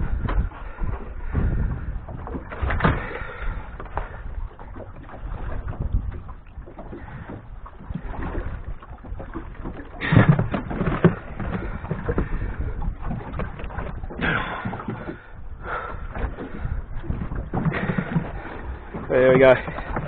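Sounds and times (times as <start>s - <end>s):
knocks and clicks in boat: 0.0s - 20.0s.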